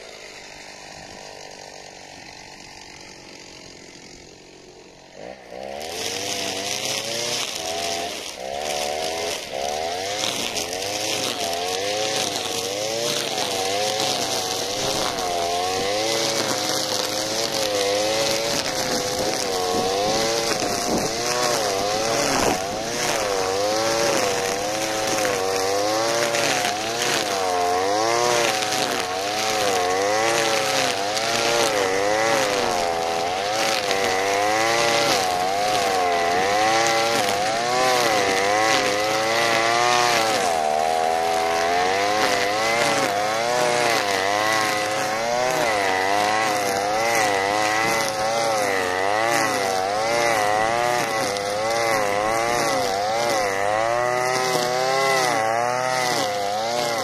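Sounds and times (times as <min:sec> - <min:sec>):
brushcutter engine revving: 0:00.0 - 0:57.0
trimmer line whipping grass: 0:00.0 - 0:57.0.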